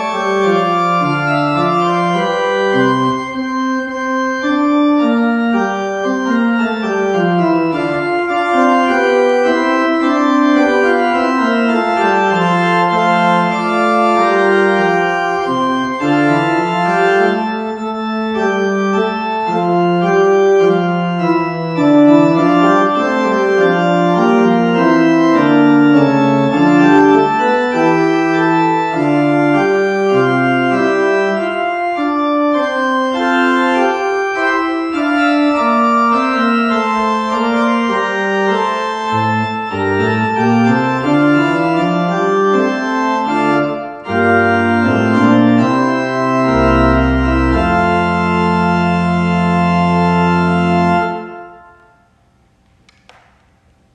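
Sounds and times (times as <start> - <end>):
church organ playing chords: 0.0 - 53.0.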